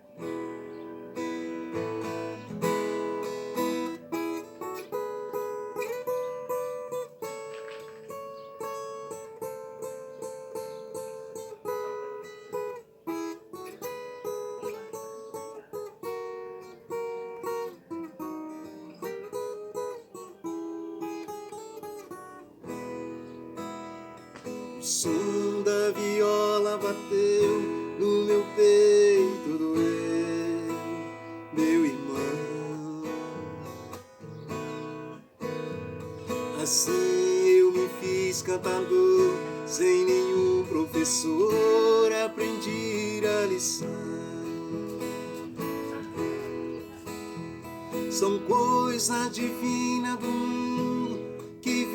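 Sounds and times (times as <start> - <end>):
strummed guitar chords: 0.0 - 51.9.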